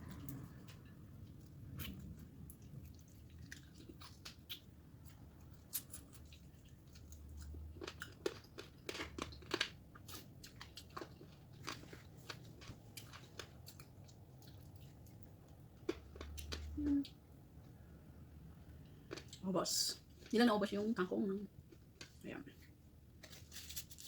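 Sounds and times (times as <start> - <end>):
chewing and crunching food: 0.0 - 24.0.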